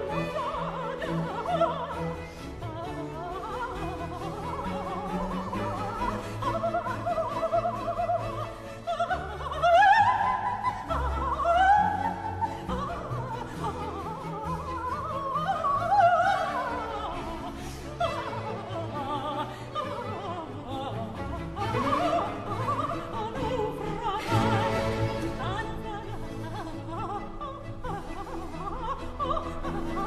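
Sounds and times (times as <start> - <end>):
soprano singing opera aria: 0.0 - 30.0
string orchestra playing: 0.0 - 30.0.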